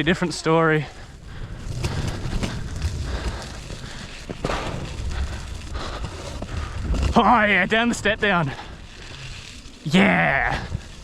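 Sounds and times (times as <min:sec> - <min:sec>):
tyres rolling on dirt trail: 0:00.0 - 0:11.0.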